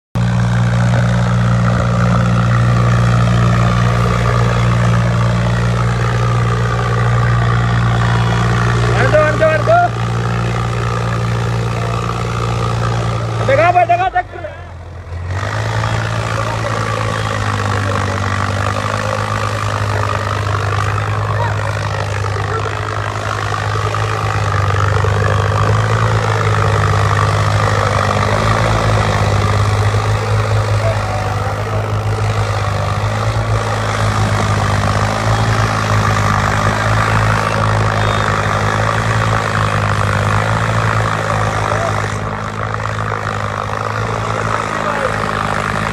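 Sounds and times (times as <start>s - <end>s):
tractor diesel engine running: 0.1s - 45.9s.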